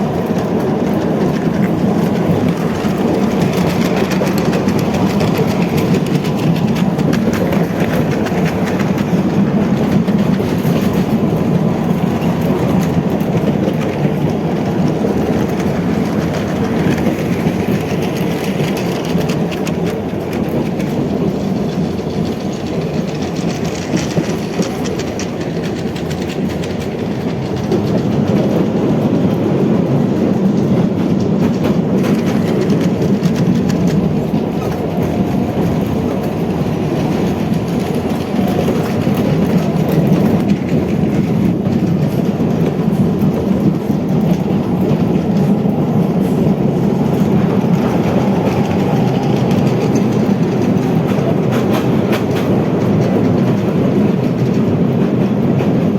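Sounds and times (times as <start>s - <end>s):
train wheels clacking on rails: 0.0s - 55.9s.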